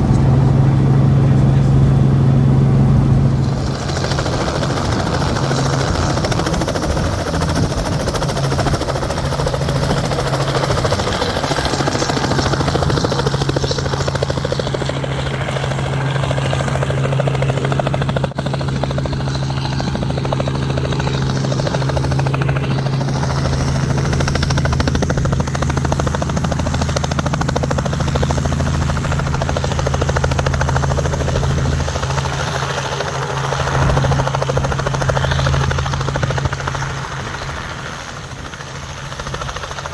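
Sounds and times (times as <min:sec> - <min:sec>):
helicopter engine and rotor running: 0:00.0 - 0:39.9.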